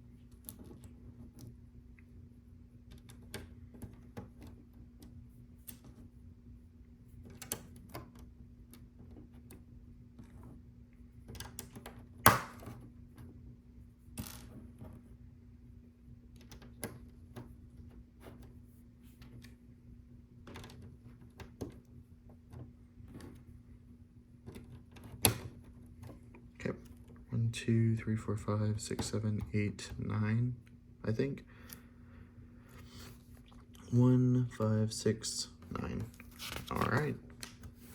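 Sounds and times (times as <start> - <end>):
faint steady hum: 0.0 - 37.9.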